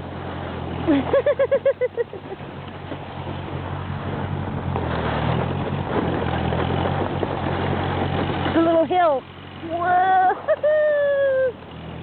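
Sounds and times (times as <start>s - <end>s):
sled rushing over snow: 0.0s - 12.0s
tractor engine running: 0.0s - 12.0s.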